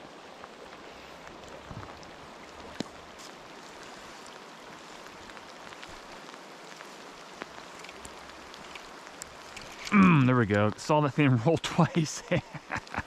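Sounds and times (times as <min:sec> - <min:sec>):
rain falling on river: 0:00.0 - 0:13.0.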